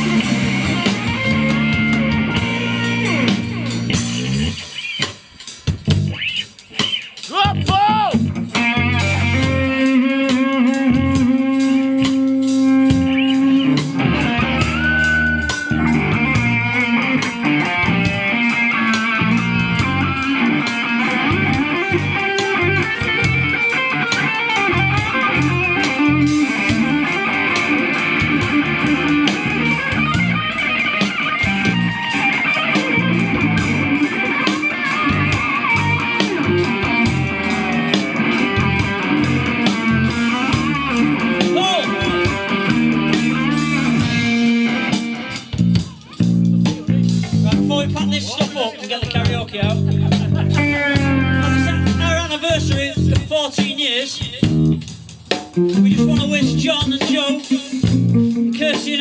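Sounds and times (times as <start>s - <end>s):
bass guitar: 0.0s - 59.0s
drum kit steady beat: 0.0s - 59.0s
electric guitar: 0.0s - 59.0s.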